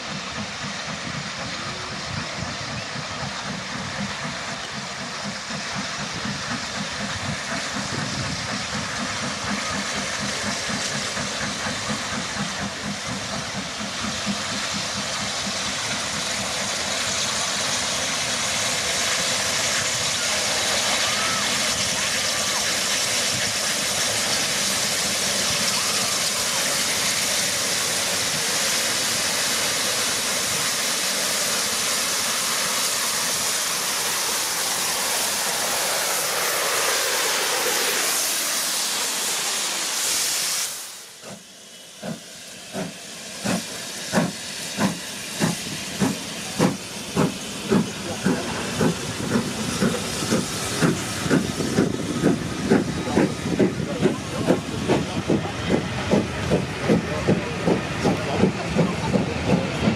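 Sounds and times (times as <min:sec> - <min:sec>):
locomotive steam hissing: 0:00.0 - 0:59.9
steam train chuffing: 0:00.0 - 0:59.9.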